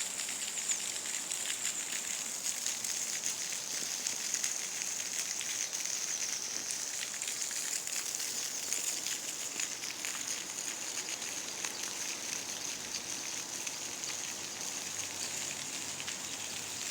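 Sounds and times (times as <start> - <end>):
small waterfall splashing: 0.0 - 16.9.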